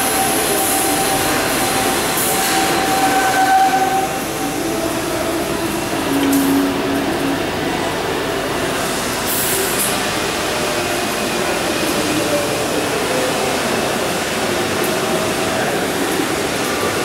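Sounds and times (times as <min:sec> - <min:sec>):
workshop machinery hiss and hum: 0:00.0 - 0:17.0.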